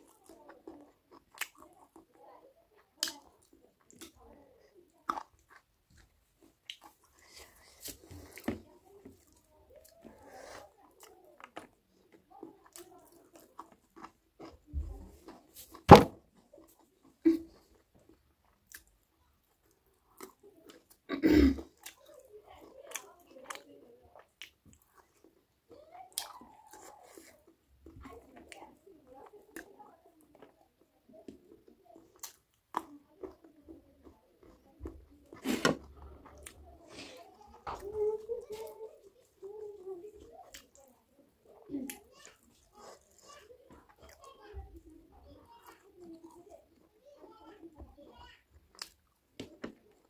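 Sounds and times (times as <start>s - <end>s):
person chewing food: 0.0s - 2.1s, 2.8s - 41.0s, 41.6s - 46.9s, 48.5s - 50.0s.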